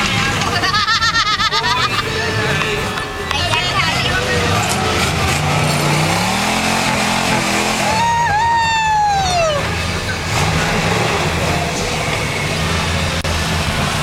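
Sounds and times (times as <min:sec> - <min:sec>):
pickup truck engine revving: 0:00.0 - 0:14.0.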